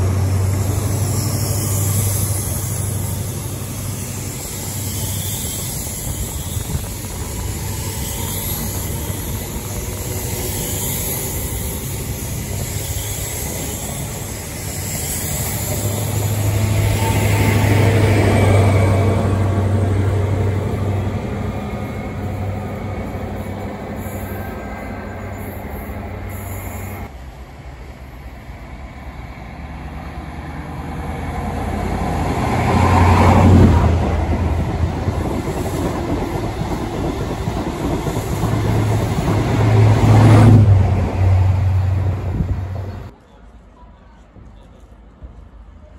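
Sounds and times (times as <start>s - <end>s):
diesel train engine drone: 0.0s - 43.2s
train wheel noise: 0.0s - 43.2s.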